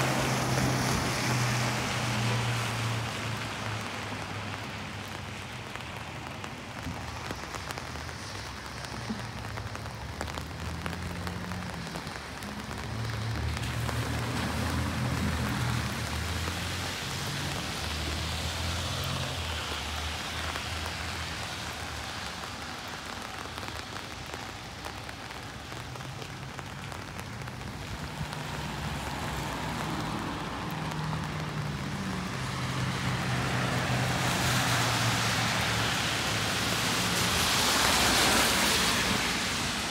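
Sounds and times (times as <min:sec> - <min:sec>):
rain on pavement: 0:00.0 - 0:39.9
traffic rumble: 0:00.0 - 0:39.9.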